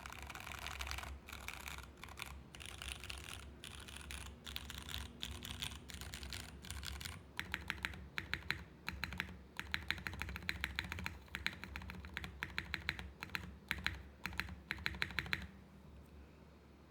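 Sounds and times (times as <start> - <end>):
mechanical keyboard typing: 0.0 - 15.6.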